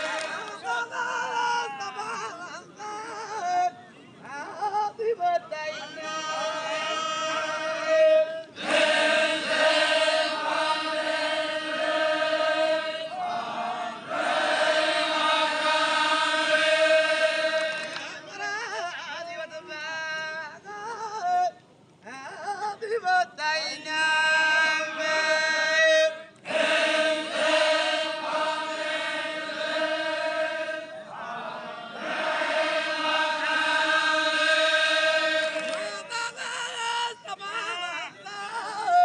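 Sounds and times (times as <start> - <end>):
men singing devotional chant: 0.0 - 39.0.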